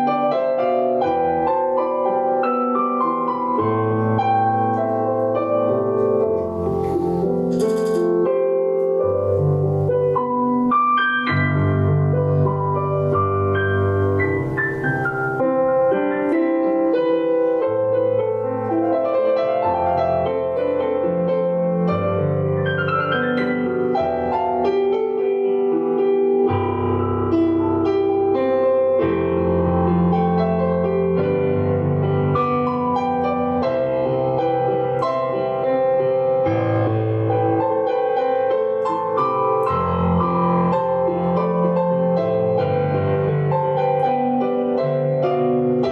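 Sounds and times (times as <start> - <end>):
slow calm piano music: 0.0 - 45.9.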